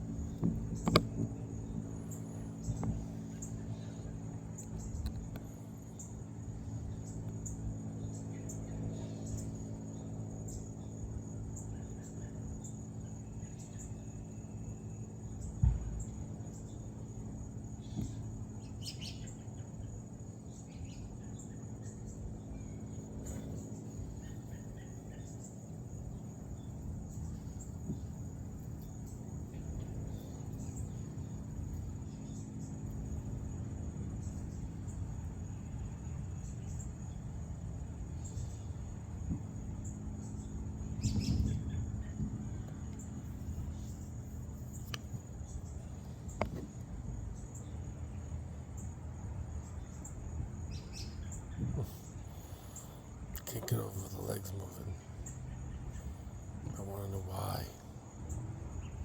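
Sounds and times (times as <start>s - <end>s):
crickets chirping: 0.0s - 59.0s
low steady hum: 0.0s - 59.0s.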